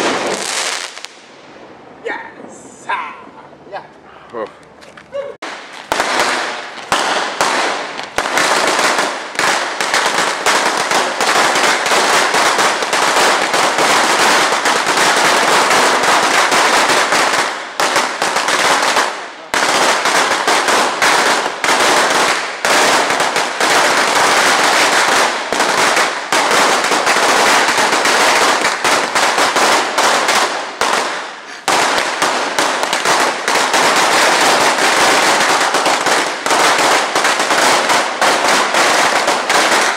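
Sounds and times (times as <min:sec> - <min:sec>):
firecrackers crackling: 0:00.0 - 0:01.7, 0:05.4 - 0:39.9.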